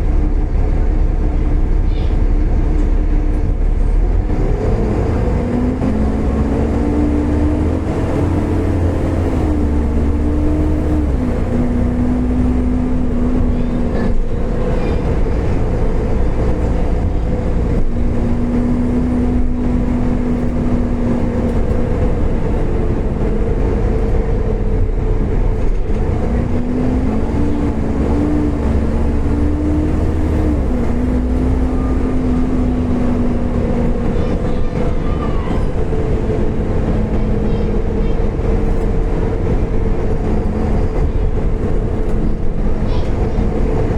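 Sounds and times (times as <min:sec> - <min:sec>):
bus engine whining: 0:00.0 - 0:43.9.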